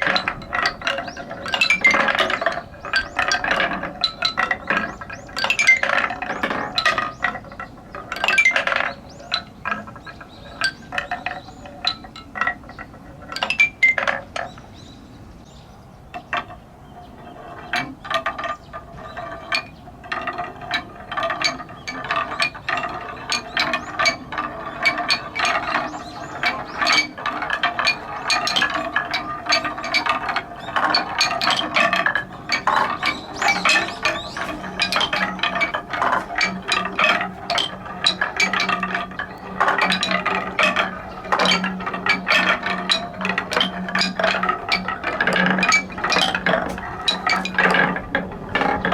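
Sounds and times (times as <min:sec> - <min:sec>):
balls clattering down wooden marble run: 0:00.0 - 0:14.6, 0:16.1 - 0:48.9.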